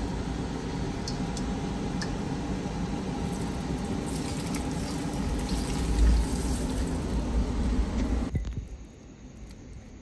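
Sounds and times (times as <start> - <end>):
hot oil sizzling and crackling: 0.0 - 8.4
low background hum: 0.0 - 10.0.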